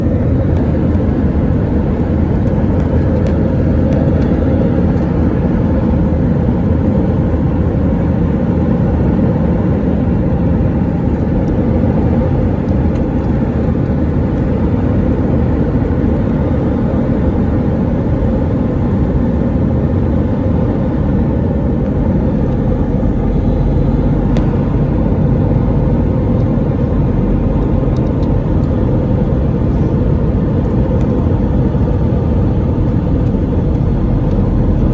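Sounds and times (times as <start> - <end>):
airliner drone in flight: 0.0 - 34.9.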